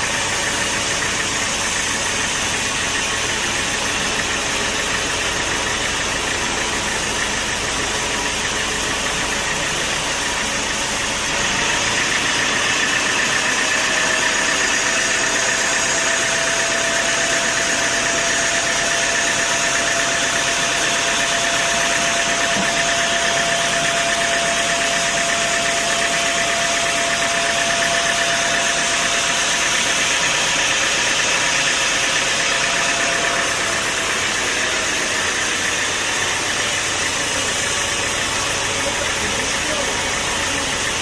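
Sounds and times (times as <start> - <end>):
machinery whine: 0.0 - 41.0
sawmill machinery drone: 0.0 - 41.0.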